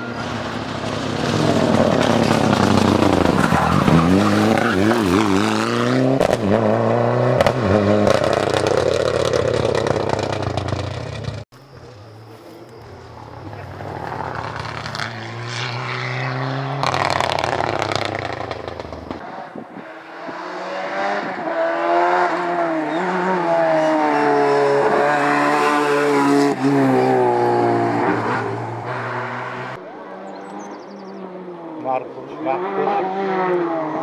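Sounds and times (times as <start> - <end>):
rally car engine at full throttle: 0.0 - 34.0.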